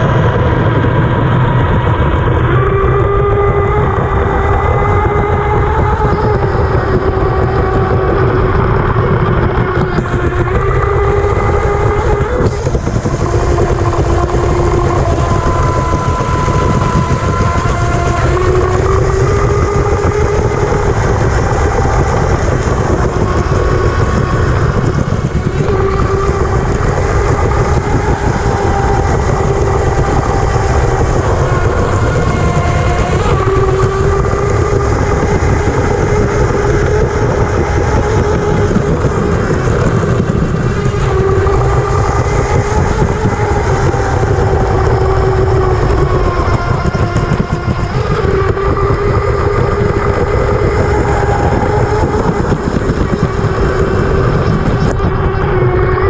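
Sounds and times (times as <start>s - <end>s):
electric motor whining: 0.0s - 56.0s
rumble of hull and water: 0.0s - 56.0s.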